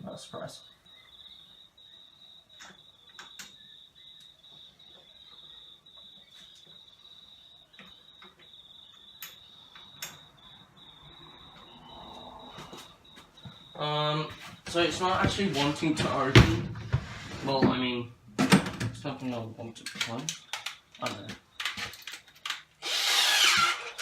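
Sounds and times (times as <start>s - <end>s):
cricket trilling: 0.0s - 18.0s, 19.0s - 24.0s.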